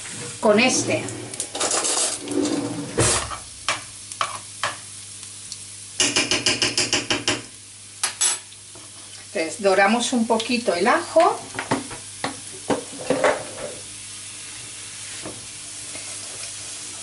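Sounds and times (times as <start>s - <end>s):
garlic sizzling in hot oil: 0.0s - 17.0s.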